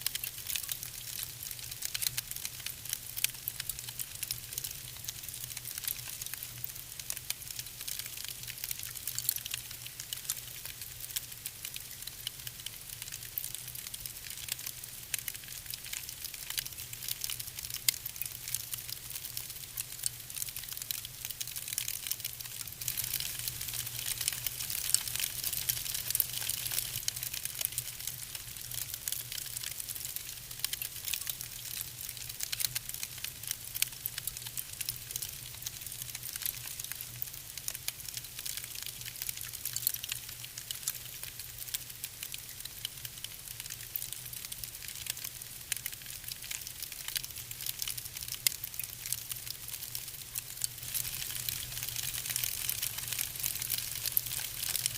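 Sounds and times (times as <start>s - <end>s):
soft hiss: 0.0s - 54.9s
wood fire crackling: 0.0s - 54.9s.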